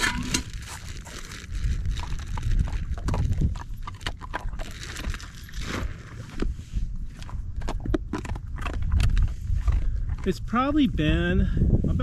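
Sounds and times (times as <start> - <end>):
dog's paws on gravel: 0.0 - 10.5
wind buffeting microphone: 0.0 - 12.0.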